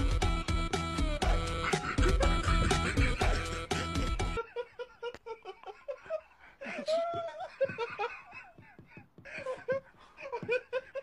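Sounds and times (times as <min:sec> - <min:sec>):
person giggling: 0:01.2 - 0:11.0.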